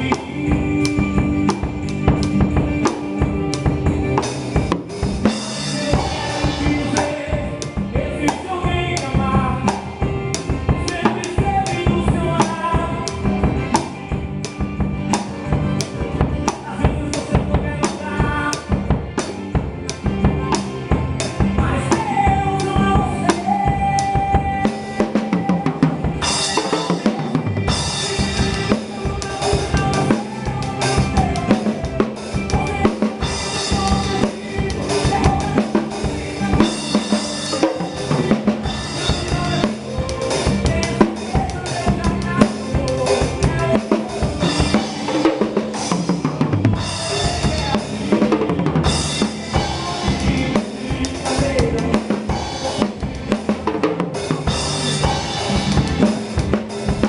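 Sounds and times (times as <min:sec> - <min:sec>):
drum kit beat: 0:00.0 - 0:57.0
gospel song instrumental: 0:00.0 - 0:57.0.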